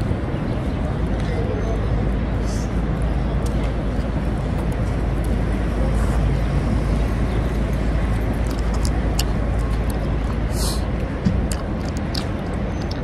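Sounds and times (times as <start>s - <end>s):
passing traffic rumble: 0.0s - 13.0s.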